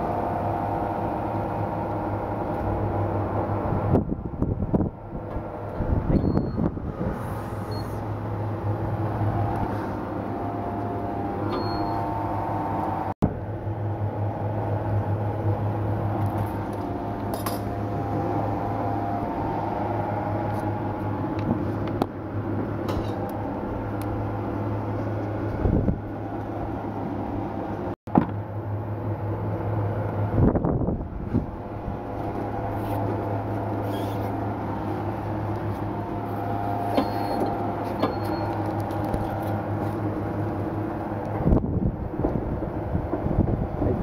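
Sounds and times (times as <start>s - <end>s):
machine hum with wavering tones: 0.0s - 43.8s.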